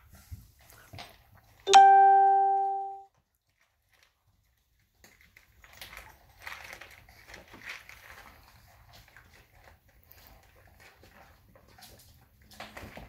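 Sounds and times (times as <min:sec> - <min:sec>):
puppies chewing on wooden floor: 0:00.0 - 0:01.6, 0:03.1 - 0:13.0.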